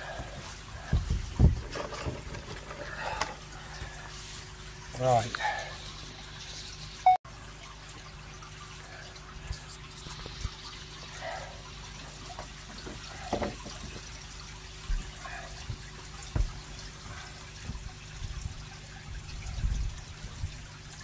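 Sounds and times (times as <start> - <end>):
water sloshing and dripping: 0.0 - 21.0.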